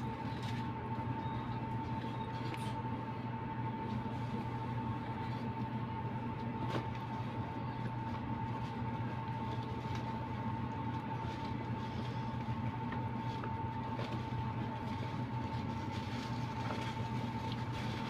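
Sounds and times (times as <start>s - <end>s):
machine hum with thin whine: 0.0s - 18.0s.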